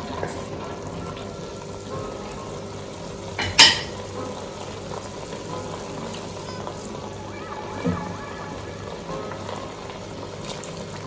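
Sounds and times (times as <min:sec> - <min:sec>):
loud kitchen sound: 0:00.0 - 0:11.0
pot sizzling and simmering: 0:00.0 - 0:11.0.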